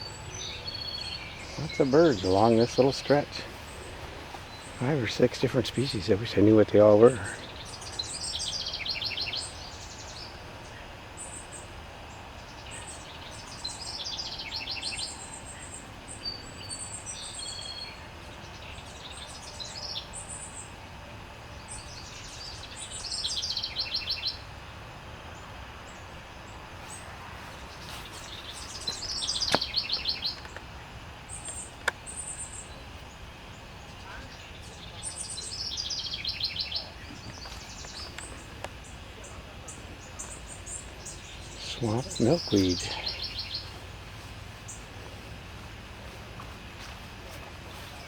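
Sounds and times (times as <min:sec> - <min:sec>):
songbirds singing and calling: 0:00.0 - 0:48.0.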